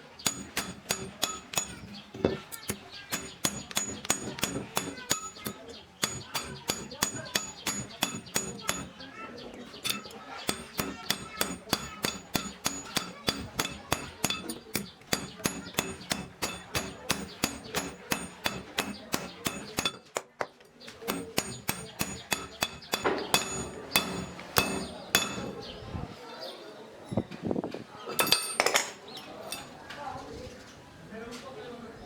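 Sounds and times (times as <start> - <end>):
hammer striking metal: 0.0 - 20.4, 21.0 - 25.8, 28.1 - 29.8.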